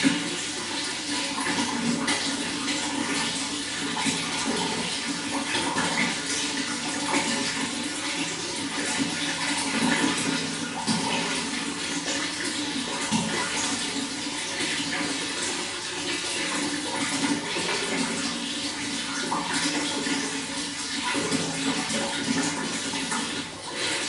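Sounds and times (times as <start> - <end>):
running water splashing: 0.0 - 24.0.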